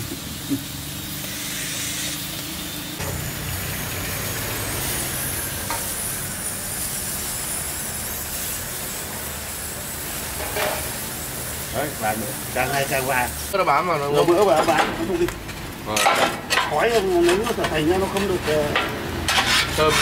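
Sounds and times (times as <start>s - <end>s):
meatballs sizzling on a grill: 0.0s - 19.9s.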